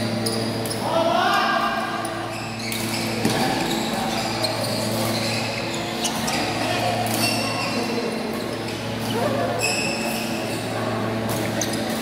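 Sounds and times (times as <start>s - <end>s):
shoes squeaking on court floor: 0.0s - 0.9s, 2.0s - 12.0s.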